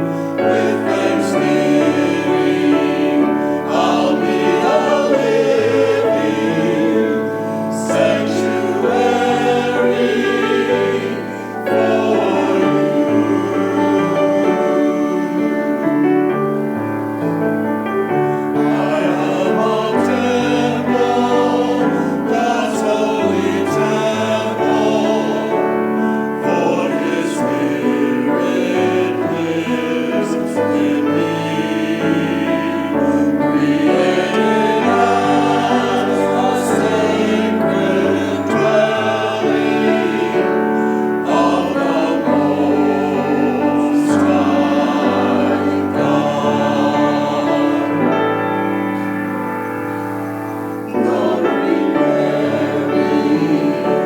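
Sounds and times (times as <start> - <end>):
church choir singing: 0.0 - 54.0.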